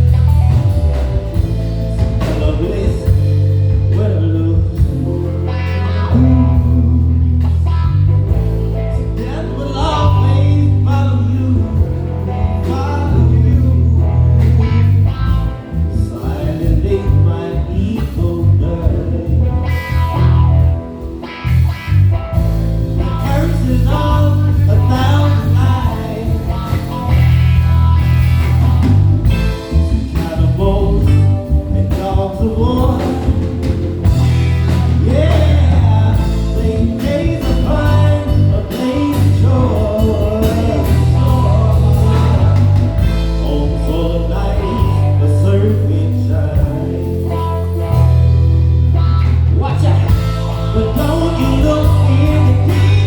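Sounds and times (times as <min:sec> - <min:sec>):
bass guitar low notes: 0:00.0 - 0:53.0
live band playing: 0:00.0 - 0:53.0.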